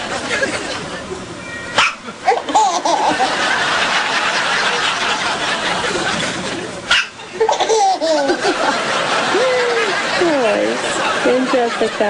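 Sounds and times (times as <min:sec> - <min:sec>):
soft laughter and chuckling: 0:02.1 - 0:12.0.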